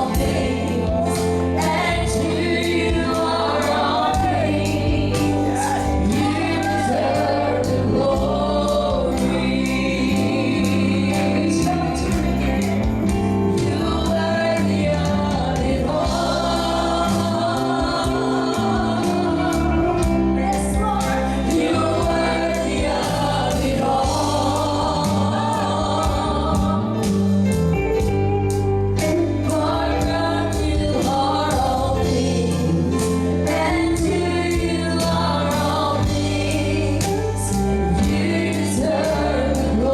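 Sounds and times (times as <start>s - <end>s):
choir singing gospel: 0.0s - 39.9s
instrumental accompaniment with beat: 0.0s - 39.9s.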